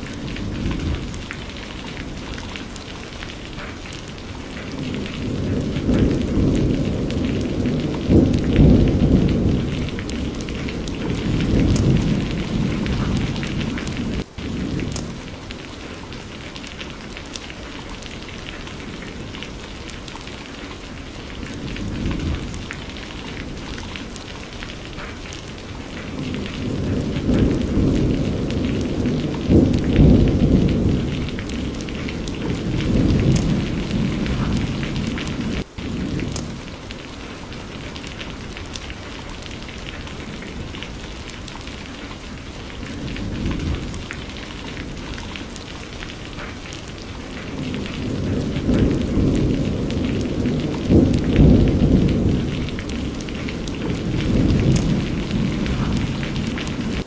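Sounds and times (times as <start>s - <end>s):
low rolling thunder: 0.0s - 57.0s
steady rain falling: 0.0s - 57.0s.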